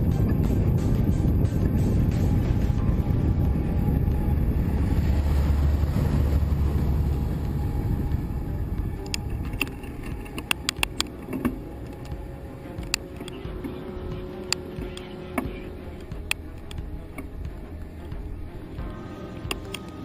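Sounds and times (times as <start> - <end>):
truck overtaking: 0.0 - 20.0
vehicle engine and road rumble: 0.0 - 20.0
sharp ticks and clicks: 3.4 - 20.0.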